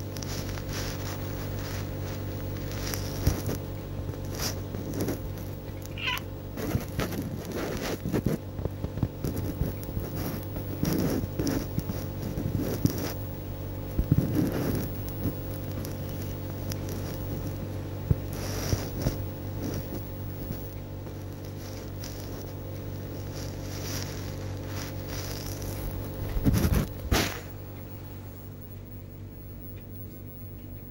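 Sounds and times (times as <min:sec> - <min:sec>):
fur and clothes rustling on microphone: 0:00.0 - 0:27.5
steady low hum: 0:00.0 - 0:30.9.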